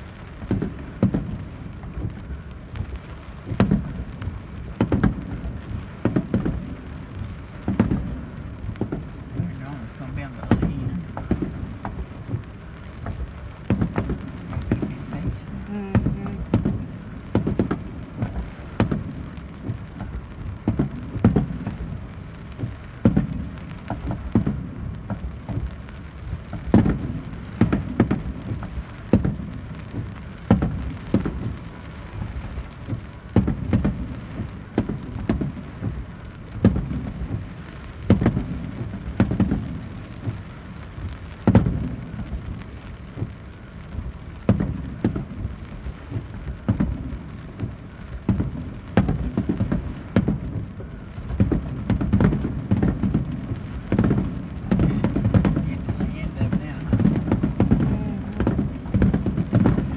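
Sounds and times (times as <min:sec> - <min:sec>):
firework shells bursting: 0:00.0 - 0:59.9.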